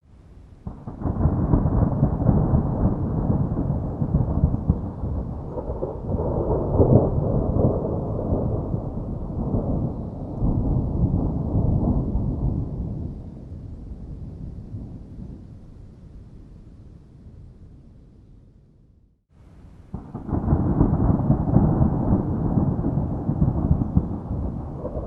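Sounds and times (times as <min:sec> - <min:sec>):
rain: 0:00.0 - 0:17.0, 0:19.3 - 0:25.0
low thunder rumbling: 0:00.4 - 0:18.6, 0:19.4 - 0:25.0.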